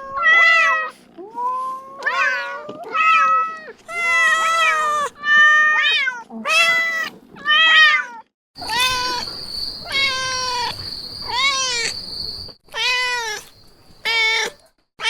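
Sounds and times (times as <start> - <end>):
cats meowing loudly: 0.0 - 12.0, 12.7 - 14.6.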